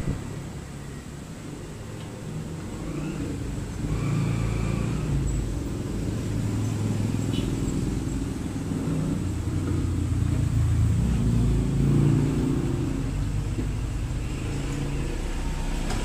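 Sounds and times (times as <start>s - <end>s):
motor vehicle engines rumbling: 0.0s - 16.0s.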